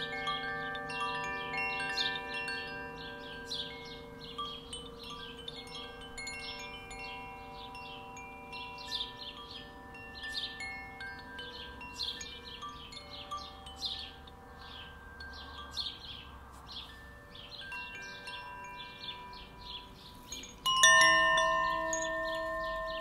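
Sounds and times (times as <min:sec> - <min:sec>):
wind chimes ringing: 0:00.0 - 0:23.0.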